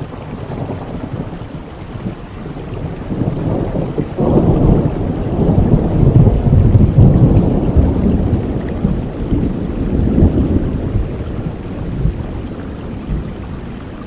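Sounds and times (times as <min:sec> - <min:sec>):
low rumble of thunder: 0:00.0 - 0:14.0
steady rain: 0:00.0 - 0:14.0.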